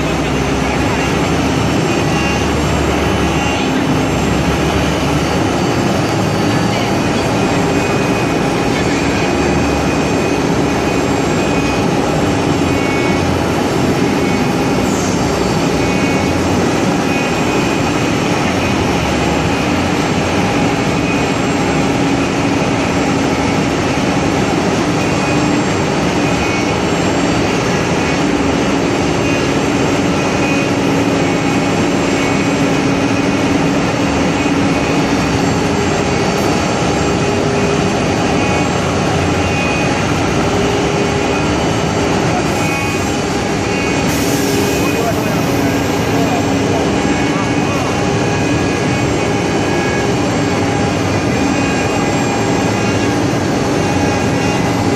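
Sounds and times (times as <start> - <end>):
cnc router spindles whining: 0.0 - 54.9.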